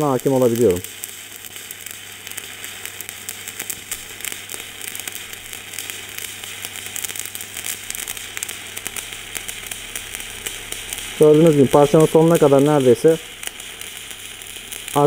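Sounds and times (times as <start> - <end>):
spatter pops crackling: 0.0 - 15.0
welding arc sizzling: 0.0 - 15.0.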